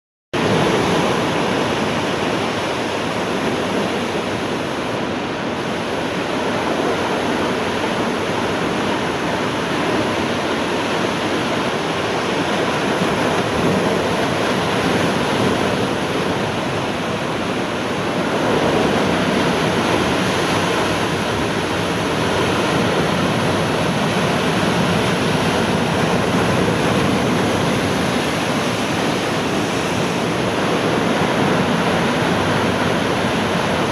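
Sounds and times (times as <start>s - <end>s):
heavy ocean surf breaking: 0.4s - 33.9s.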